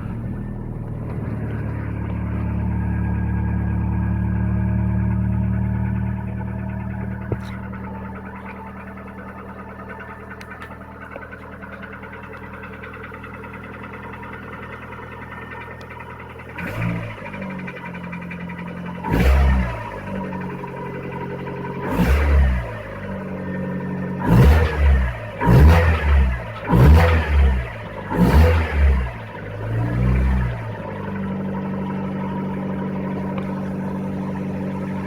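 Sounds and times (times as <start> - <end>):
car engine idling: 0.0 - 35.0
engine revving in short blips: 0.0 - 35.0.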